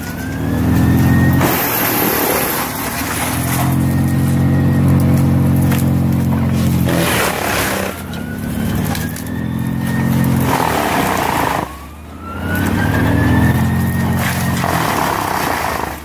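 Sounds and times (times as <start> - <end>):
rising machine whine: 0.0 - 15.8
rushing chipping noise: 0.0 - 16.0
wood chipper engine under load: 0.0 - 16.0.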